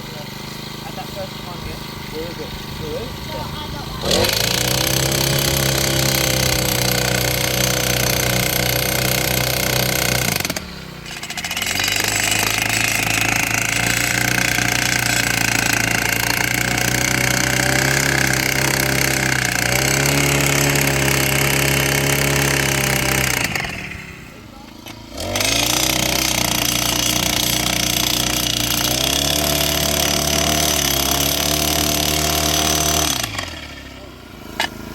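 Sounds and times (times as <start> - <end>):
post driver engine hammering: 0.0 - 34.9.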